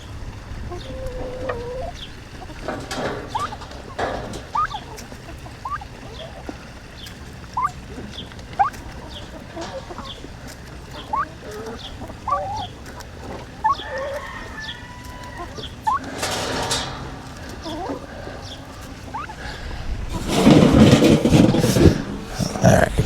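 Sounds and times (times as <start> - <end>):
chickens clucking and calling: 0.0 - 23.0.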